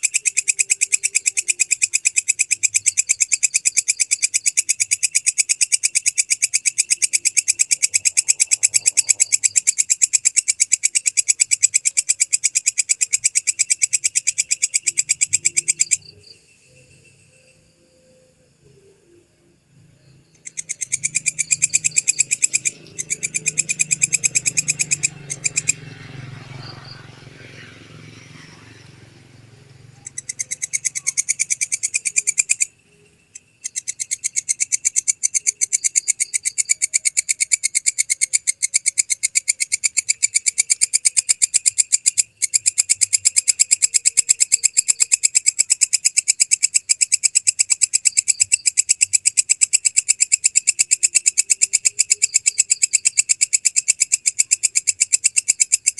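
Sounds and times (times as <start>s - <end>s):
katydid chirping: 0.0s - 55.9s.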